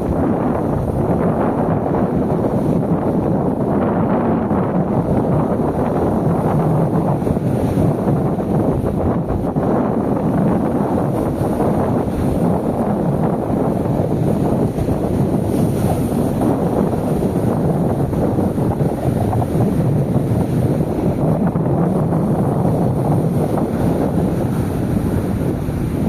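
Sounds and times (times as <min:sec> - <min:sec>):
sea waves on shore: 0:00.0 - 0:26.0
wind buffeting microphone: 0:00.0 - 0:26.0.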